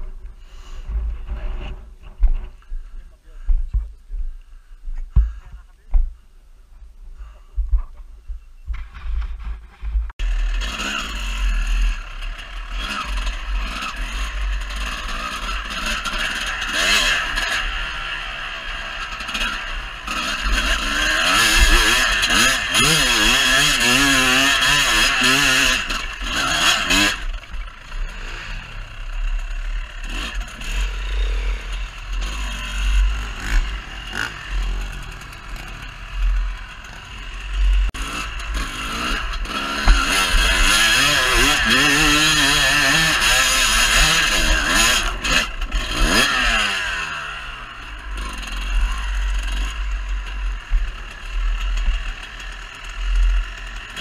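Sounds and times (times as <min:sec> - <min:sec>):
dirt bike engine revving: 0:08.7 - 0:54.0.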